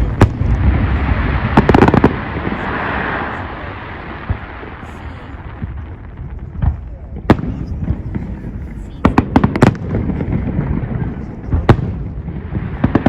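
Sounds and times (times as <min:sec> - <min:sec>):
firework bangs: 0:00.0 - 0:13.0
firework cracks and crackling fizz: 0:00.0 - 0:13.0.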